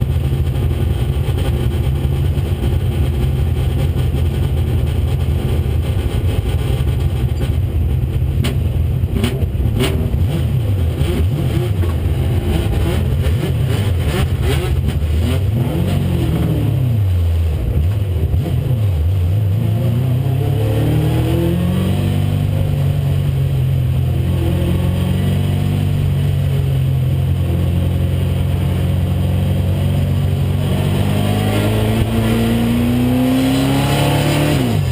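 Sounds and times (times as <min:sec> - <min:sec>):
race car engine running hard: 0:00.0 - 0:34.9.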